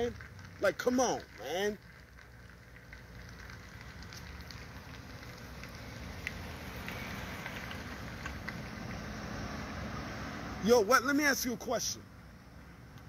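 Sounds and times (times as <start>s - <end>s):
low outdoor rumble with crackling: 0.0s - 13.0s.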